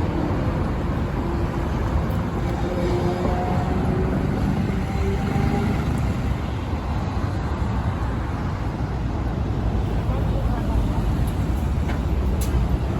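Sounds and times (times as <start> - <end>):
streetcar rumbling: 0.0 - 12.9.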